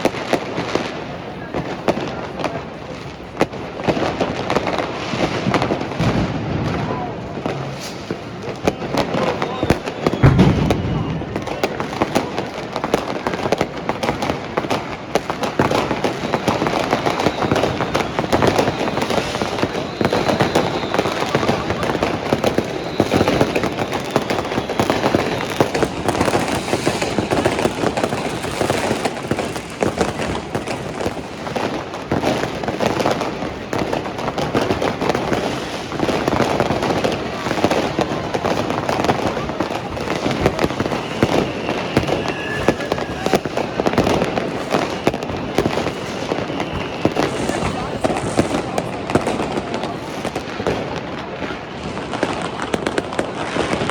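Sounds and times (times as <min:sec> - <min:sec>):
fireworks and firecrackers banging: 0:00.0 - 0:53.9.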